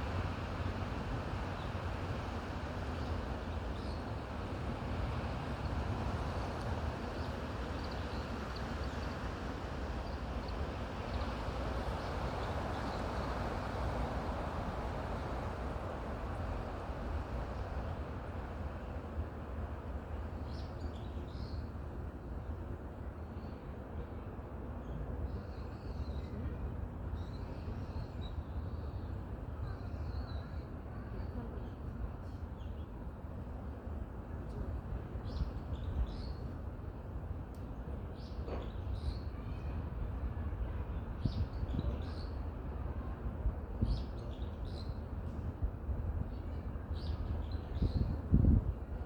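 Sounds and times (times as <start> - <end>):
wind through trees: 0.0 - 49.0.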